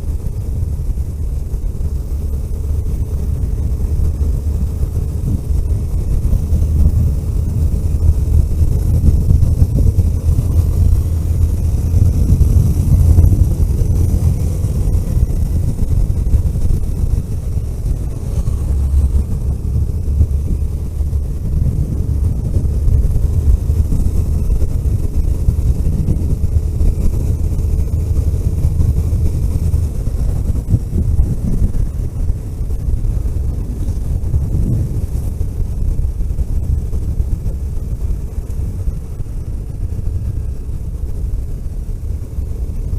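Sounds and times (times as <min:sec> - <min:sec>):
vehicle engine and road rumble: 0:00.0 - 0:42.9.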